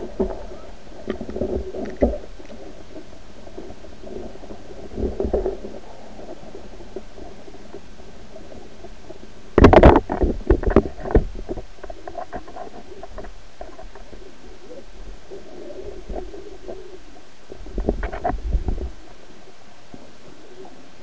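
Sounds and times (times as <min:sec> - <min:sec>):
muffled underwater noise: 0:00.0 - 0:21.0.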